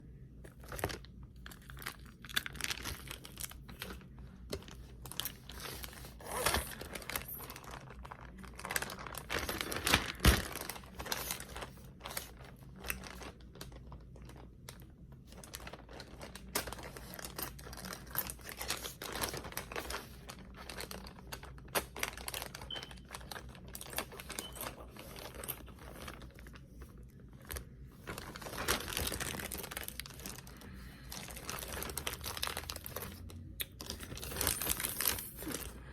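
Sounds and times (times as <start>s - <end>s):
crinkling handling noise: 0.3s - 35.9s.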